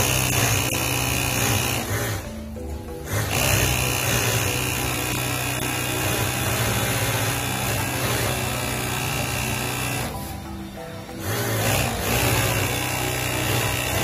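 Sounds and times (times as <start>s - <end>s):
sewing machine running: 0.0s - 14.0s.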